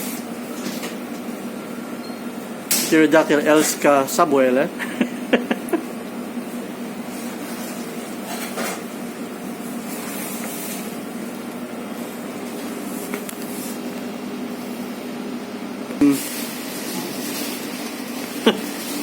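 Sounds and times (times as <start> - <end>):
ventilation hum and hiss: 0.0 - 19.0.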